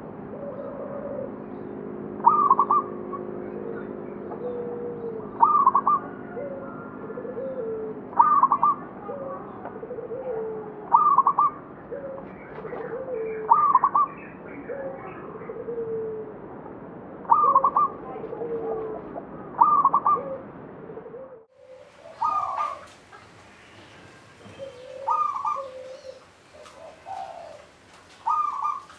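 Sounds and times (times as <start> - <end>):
dove cooing: 0.3 - 1.5, 2.2 - 16.5, 17.2 - 28.9.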